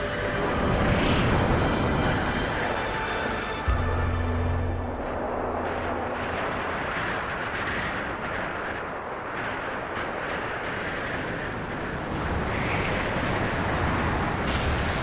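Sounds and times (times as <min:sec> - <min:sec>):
high wind rushing: 0:00.0 - 0:15.0.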